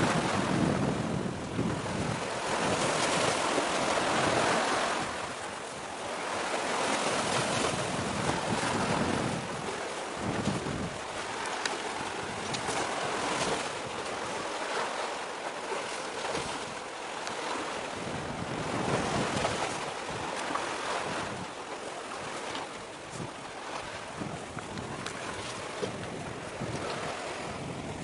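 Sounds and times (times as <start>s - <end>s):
sea waves rushing: 0.0s - 28.0s
wind buffeting microphone: 0.0s - 28.0s.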